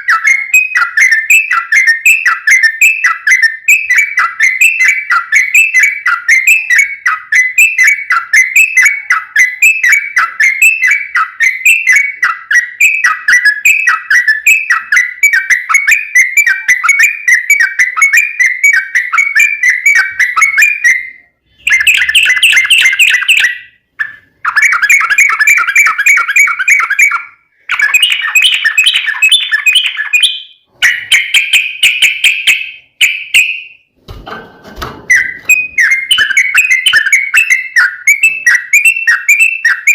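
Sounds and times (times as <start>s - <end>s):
bird singing chattering song: 0.0s - 33.9s, 35.1s - 39.9s.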